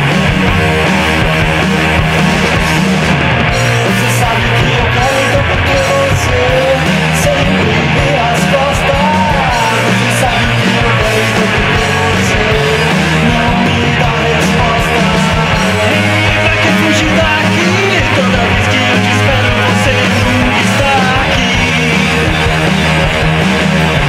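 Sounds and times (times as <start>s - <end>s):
rock song with strummed guitars: 0.0s - 24.0s.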